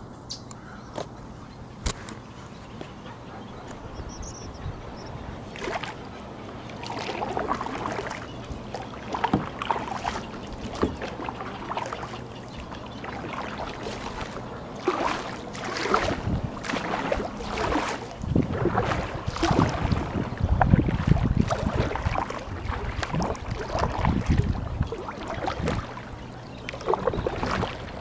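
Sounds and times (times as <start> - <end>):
paddle splashing in water: 5.5 - 28.0.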